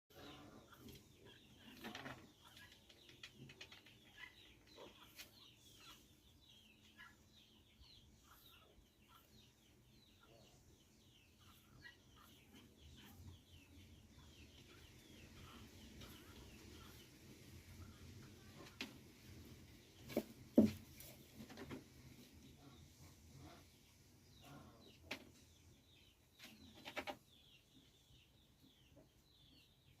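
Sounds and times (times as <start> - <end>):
chickens chirping and clucking: 0.1 - 30.0.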